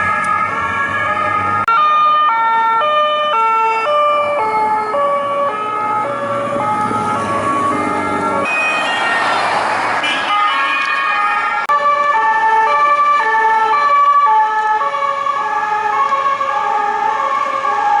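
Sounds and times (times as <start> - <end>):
traffic noise: 0.0 - 18.0
two-tone police siren: 0.0 - 18.0.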